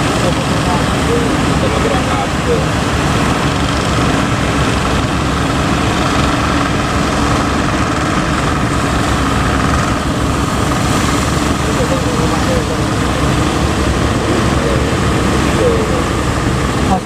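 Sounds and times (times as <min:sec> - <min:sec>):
boat engine running: 0:00.0 - 0:17.0
steady rushing noise: 0:00.0 - 0:17.0.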